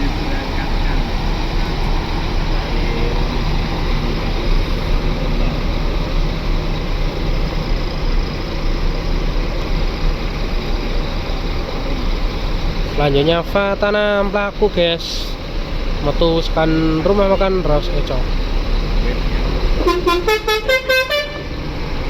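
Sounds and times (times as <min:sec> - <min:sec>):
bus diesel engine rumbling: 0:00.0 - 0:22.0
road noise: 0:00.0 - 0:22.0.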